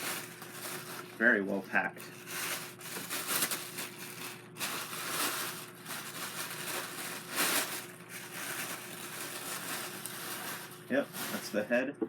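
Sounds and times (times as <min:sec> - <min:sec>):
packing material crinkling: 0:00.0 - 0:11.6.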